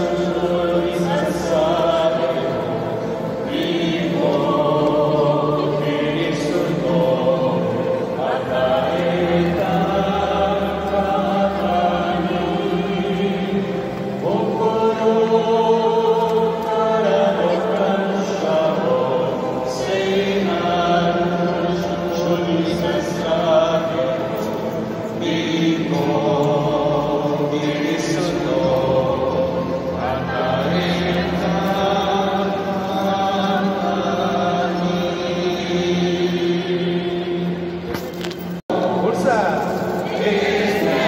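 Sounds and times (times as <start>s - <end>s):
choir singing a slow chant: 0.0s - 41.0s.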